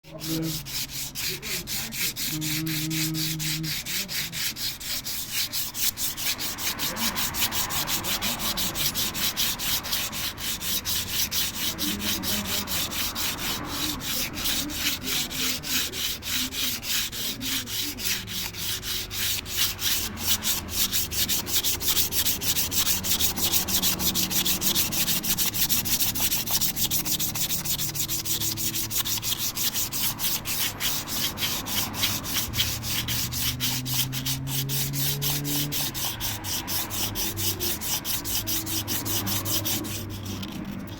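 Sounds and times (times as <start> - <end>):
sandpaper rubbing on metal: 0.0 - 40.9.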